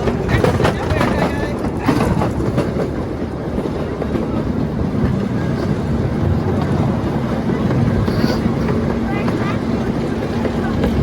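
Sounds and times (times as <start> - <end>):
ride-on train rumbling: 0.0 - 11.0.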